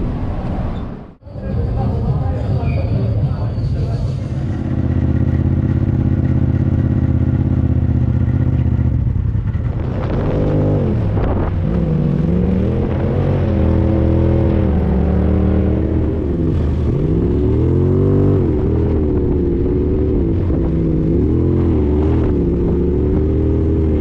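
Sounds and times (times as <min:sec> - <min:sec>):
vehicle engine revving: 0:04.3 - 0:24.0.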